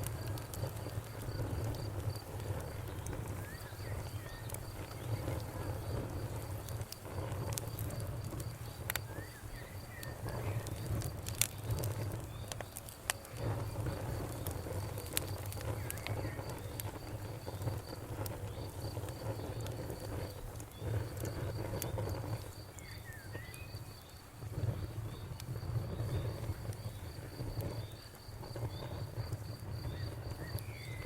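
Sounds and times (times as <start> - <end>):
campfire crackling and popping: 0.0 - 31.0
cricket chirping: 0.0 - 31.0.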